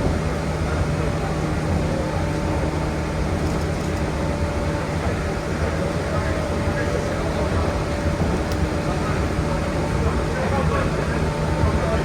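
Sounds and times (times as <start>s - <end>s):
electric train interior rumble: 0.0s - 12.0s.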